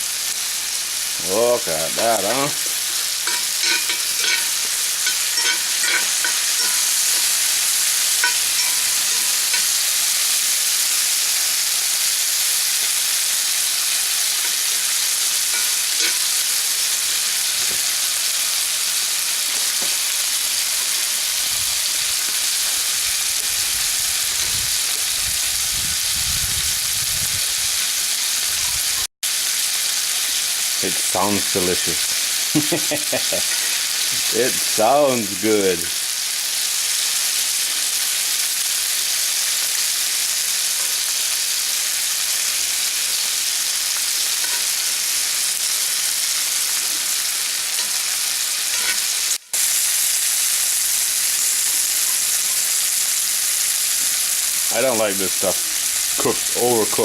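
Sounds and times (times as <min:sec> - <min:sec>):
meat sizzling in a pan: 0:00.0 - 0:57.0.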